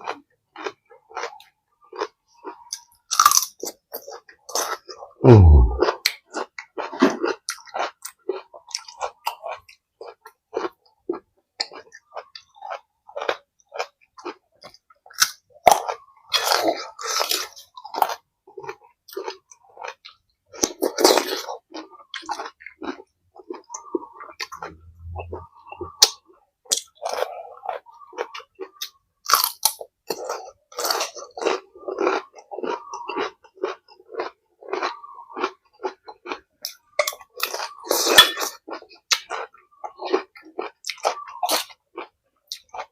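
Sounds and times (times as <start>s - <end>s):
chewing and crunching food: 0.0s - 42.9s.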